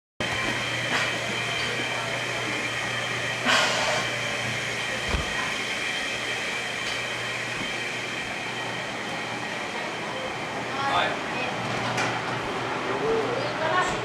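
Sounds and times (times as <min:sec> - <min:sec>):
steady mechanical hum and hiss: 0:00.2 - 0:14.0.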